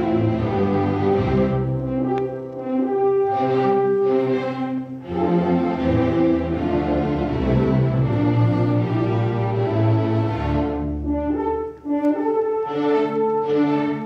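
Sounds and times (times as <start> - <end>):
orchestra playing held chords: 0.0 - 14.0.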